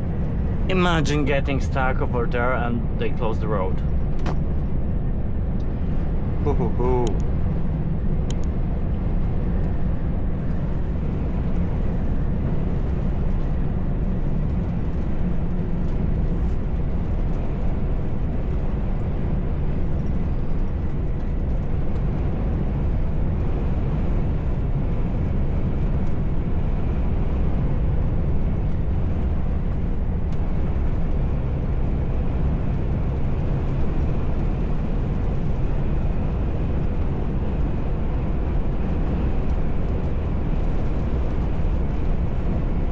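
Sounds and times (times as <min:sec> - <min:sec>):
truck engine and road noise: 0:00.0 - 0:42.9.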